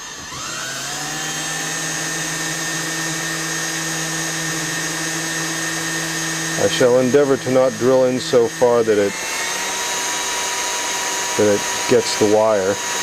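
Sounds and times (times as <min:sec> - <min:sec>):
electric drill whining: 0:00.0 - 0:13.0.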